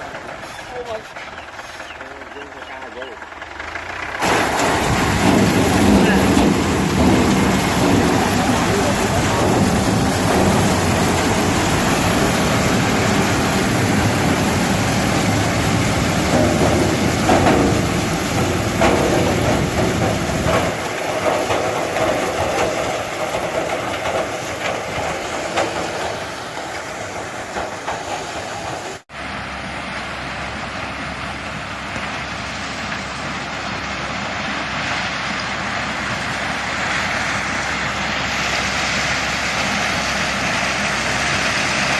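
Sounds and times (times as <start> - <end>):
corn harvester running: 0.0 - 41.9.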